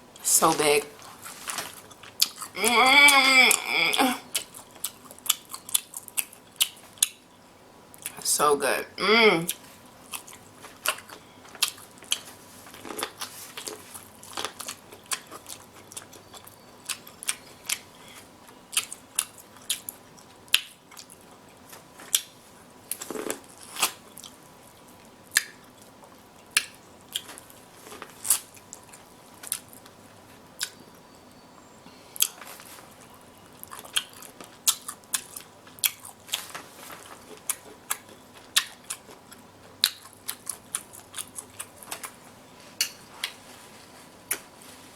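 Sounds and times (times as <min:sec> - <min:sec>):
chewing and smacking: 0:01.0 - 0:02.6, 0:04.2 - 0:07.4, 0:09.5 - 0:30.8, 0:32.2 - 0:44.6.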